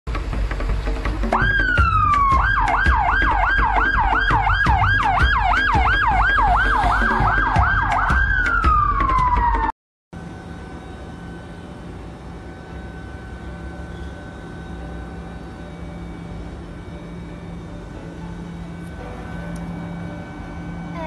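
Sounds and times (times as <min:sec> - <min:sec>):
ambulance siren: 0:01.3 - 0:21.0.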